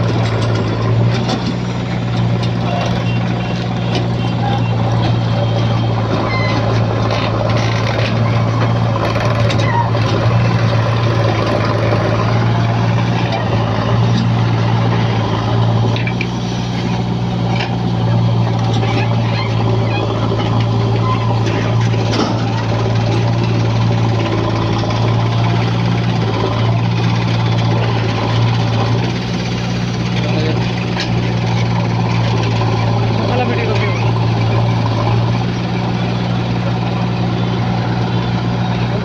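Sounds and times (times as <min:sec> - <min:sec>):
diesel engine humming: 0:00.0 - 0:39.0.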